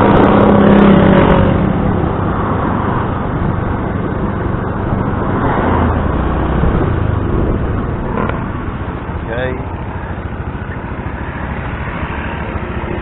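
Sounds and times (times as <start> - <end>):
motor scooter engine hum: 0.0 - 13.0
road noise: 0.0 - 13.0.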